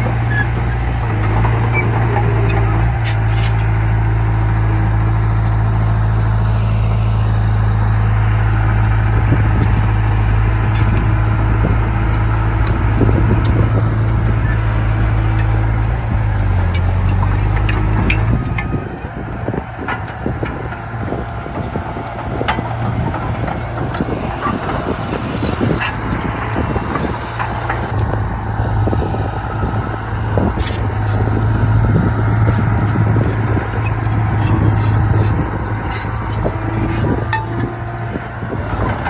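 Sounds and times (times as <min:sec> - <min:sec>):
short clanks and rattles: 0:00.0 - 0:04.0, 0:08.2 - 0:28.2, 0:28.8 - 0:39.0
bulldozer diesel engine running: 0:00.0 - 0:39.0.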